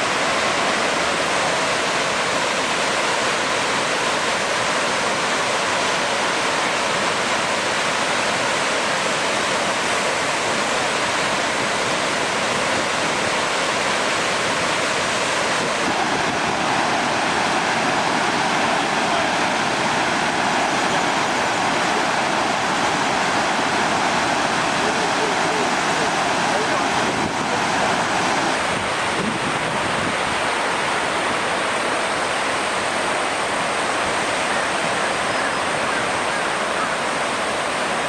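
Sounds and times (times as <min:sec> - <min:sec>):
water rushing: 0:00.0 - 0:38.0.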